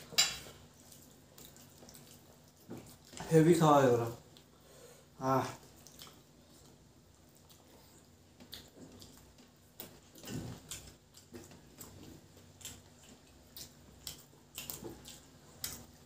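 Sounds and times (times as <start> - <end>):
chewing and lip smacks: 0.7 - 3.2, 5.6 - 16.0.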